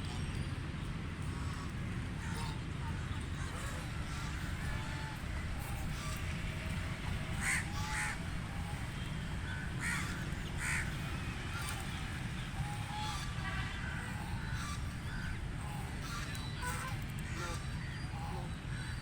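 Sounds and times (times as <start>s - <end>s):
ducks quacking: 1.2s - 18.6s.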